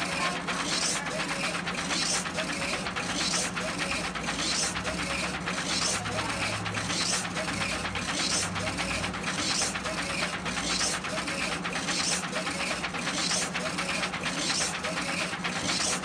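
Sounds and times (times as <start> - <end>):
printer carriage whirring: 0.0 - 16.0.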